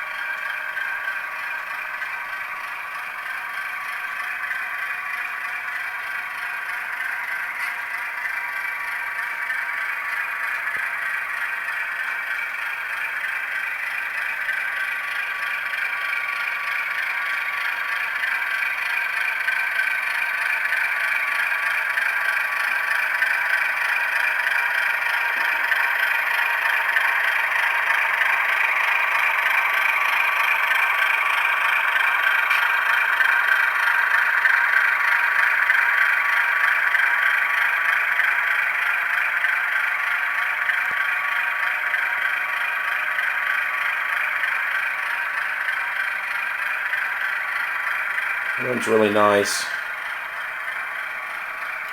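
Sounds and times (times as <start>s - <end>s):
diesel engine through small speaker: 0.0s - 51.9s.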